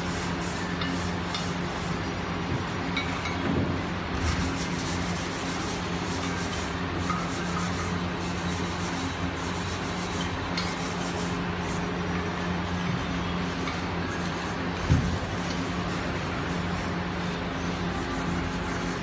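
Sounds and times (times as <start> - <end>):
hand sanding scratchy strokes: 0.0 - 19.0
steady low hum: 0.0 - 19.0.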